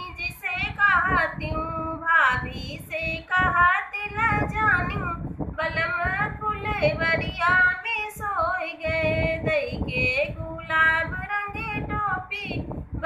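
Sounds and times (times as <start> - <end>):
woman singing folk song: 0.0 - 13.0.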